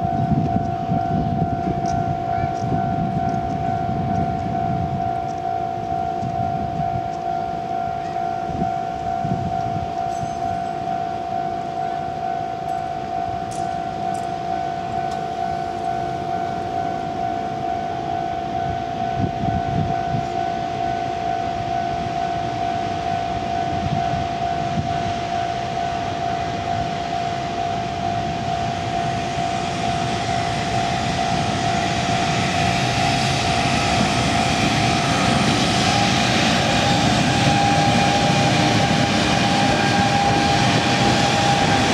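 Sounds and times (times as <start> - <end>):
approaching freight train: 0.0 - 41.9
level-crossing warning bell: 0.0 - 41.9.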